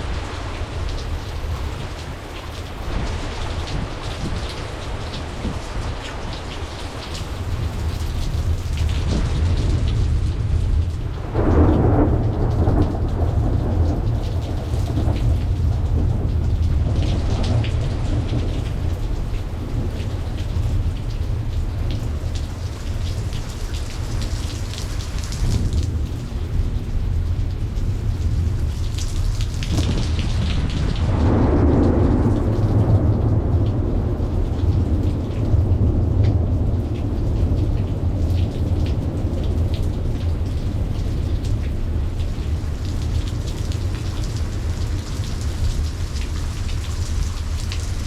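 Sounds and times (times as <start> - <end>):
steady rain falling: 0.0 - 48.0
thunder rumbling: 0.0 - 48.0.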